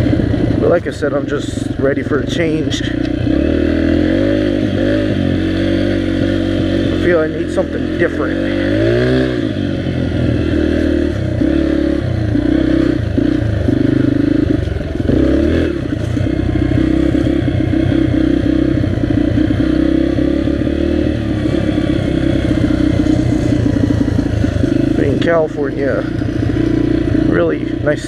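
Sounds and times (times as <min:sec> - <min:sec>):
dirt bike engine running: 0:00.0 - 0:28.0.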